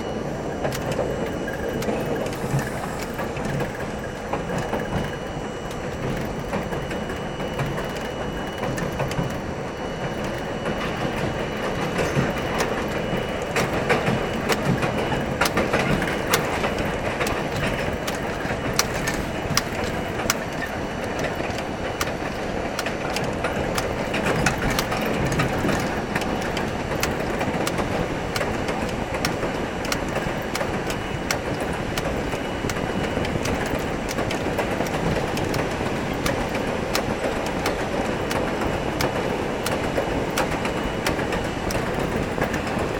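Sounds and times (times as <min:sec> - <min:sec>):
subway car rumbling: 0:00.0 - 0:42.9
wheels clicking over rail joints: 0:00.0 - 0:42.9.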